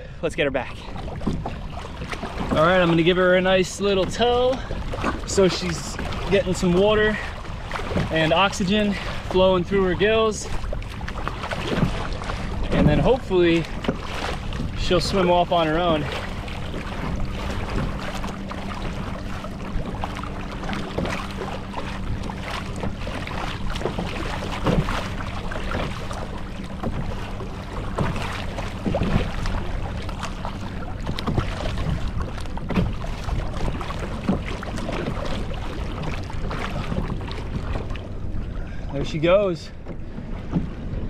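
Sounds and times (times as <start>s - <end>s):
steady low hum: 0.0s - 41.0s
water sloshing against a kayak: 0.0s - 41.0s.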